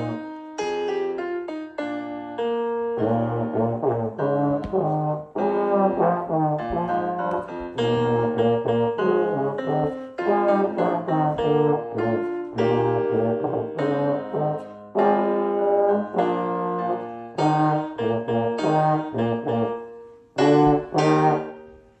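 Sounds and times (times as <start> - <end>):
slide trombone melody: 0.0 - 0.3, 2.8 - 22.0
piano accompaniment: 0.0 - 22.0.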